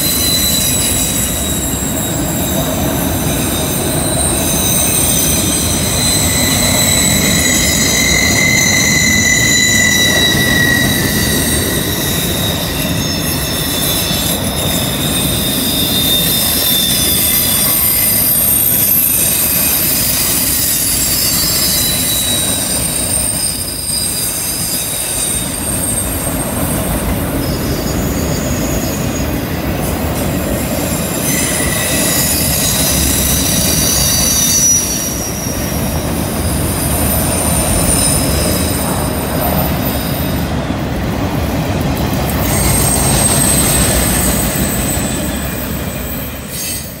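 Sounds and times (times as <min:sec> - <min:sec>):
steel wheels rumbling on rail: 0:00.0 - 0:47.0
wheels squealing on curved rail: 0:00.0 - 0:47.0.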